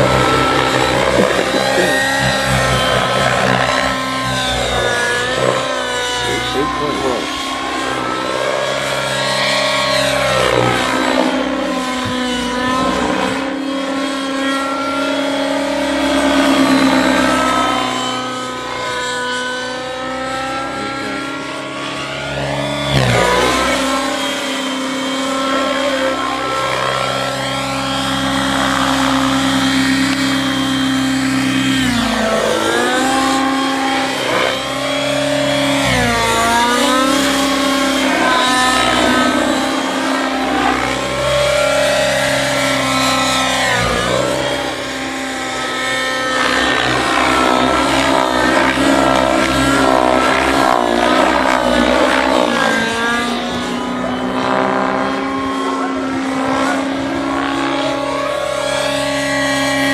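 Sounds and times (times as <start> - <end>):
model helicopter engine and rotors: 0.0 - 59.9.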